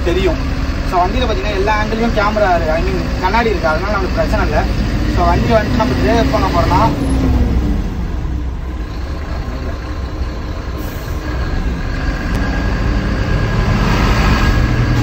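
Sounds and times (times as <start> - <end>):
diesel lorry engine rumble: 0.0 - 15.0.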